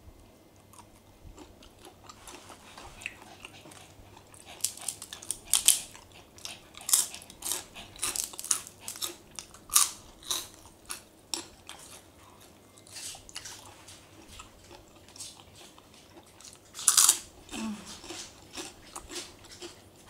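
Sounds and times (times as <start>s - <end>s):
chewing crunchy food: 0.2s - 20.0s.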